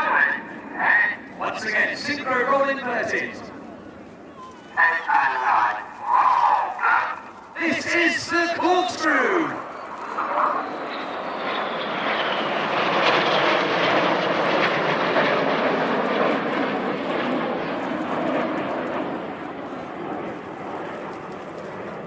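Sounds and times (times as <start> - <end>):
jets passing over: 0.0 - 22.0.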